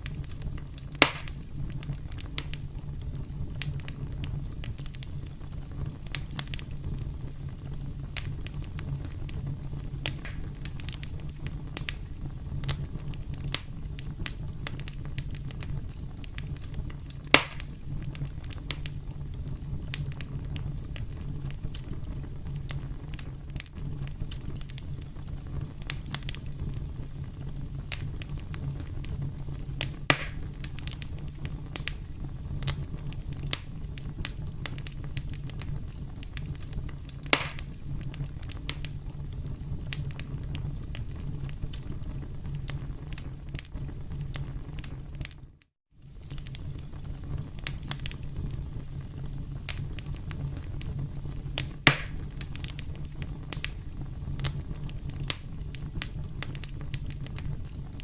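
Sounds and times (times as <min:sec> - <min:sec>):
campfire crackling: 0:00.0 - 0:45.4, 0:46.0 - 0:58.0.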